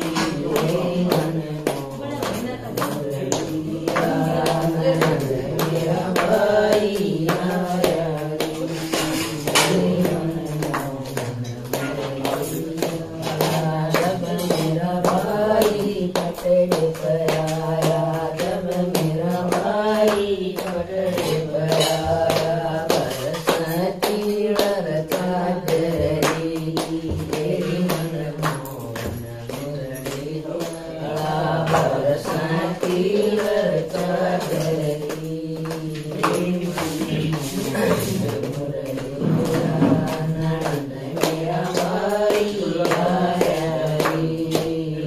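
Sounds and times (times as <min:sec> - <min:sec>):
rhythmic hand claps: 0:00.0 - 0:45.0
women singing a hymn: 0:00.0 - 0:45.0.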